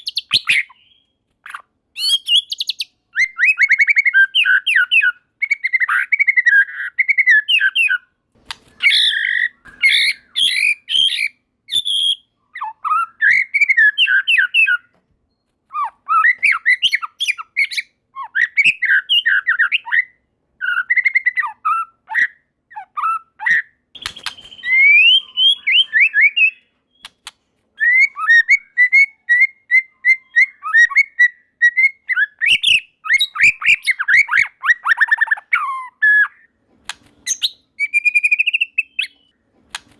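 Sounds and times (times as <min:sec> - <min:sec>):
bird singing: 0:00.0 - 0:08.1, 0:08.7 - 0:36.5, 0:37.2 - 0:39.4.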